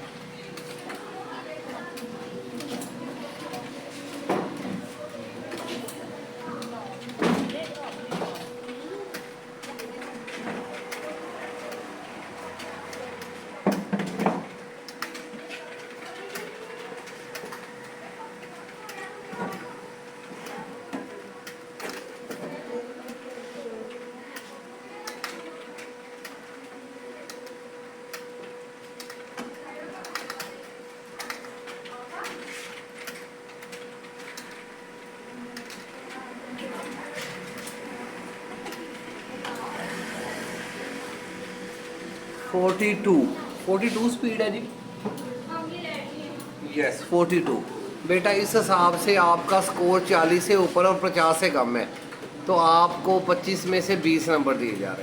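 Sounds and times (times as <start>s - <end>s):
electrical hum: 0.0s - 55.0s
faint background voices: 0.0s - 55.0s.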